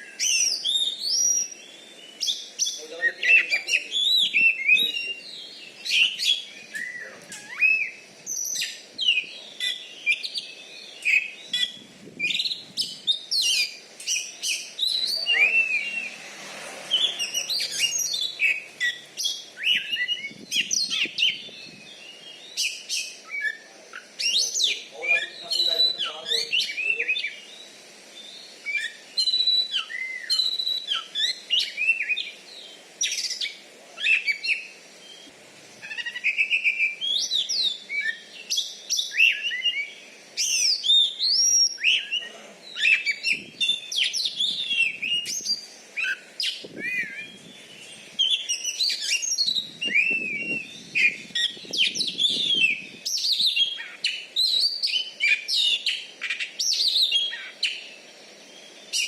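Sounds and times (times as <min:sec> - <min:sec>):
bird singing whistled phrases: 0:00.0 - 0:16.2, 0:16.9 - 0:27.6, 0:28.2 - 0:32.3, 0:33.0 - 0:57.8.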